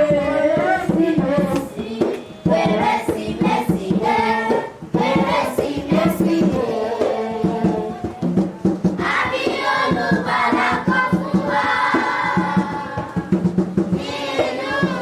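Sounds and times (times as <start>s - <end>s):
choir singing: 0.0s - 8.3s, 9.0s - 15.0s.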